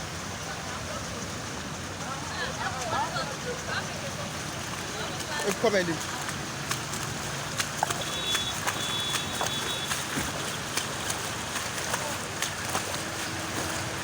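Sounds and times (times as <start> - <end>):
floodwater rushing: 0.0 - 14.0
rain: 0.0 - 14.0
sharp splashes: 0.0 - 14.0.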